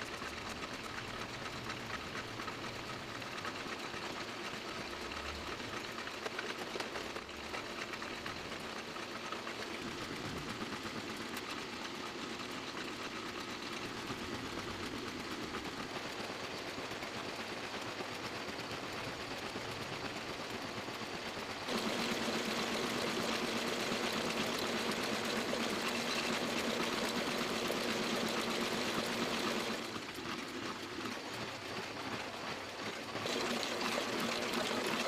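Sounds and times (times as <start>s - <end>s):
printing press whirring and ticking: 0.0s - 35.0s.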